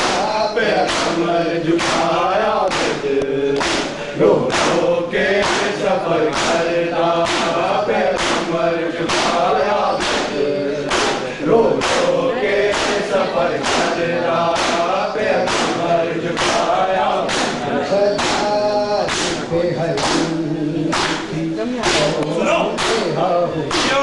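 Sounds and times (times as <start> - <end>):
hands slapping chests: 0.0 - 1.2, 1.8 - 8.5, 9.1 - 12.1, 12.7 - 15.8, 16.4 - 17.6, 18.2 - 23.1
men chanting in unison: 0.0 - 24.0.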